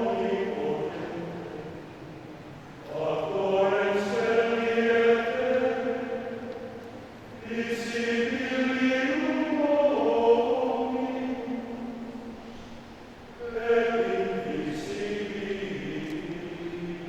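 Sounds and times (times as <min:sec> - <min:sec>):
men's choir singing: 0:00.0 - 0:12.6, 0:13.4 - 0:17.0.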